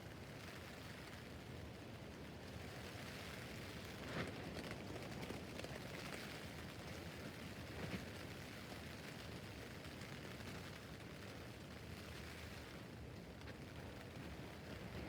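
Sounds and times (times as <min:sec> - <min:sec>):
rain on a tent roof: 0:00.0 - 0:15.0.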